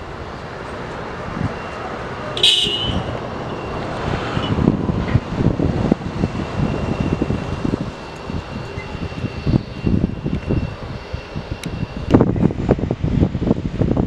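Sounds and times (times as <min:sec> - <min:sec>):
jet engine rumble and whine: 0:00.0 - 0:14.0
wind buffeting microphone: 0:00.0 - 0:14.0.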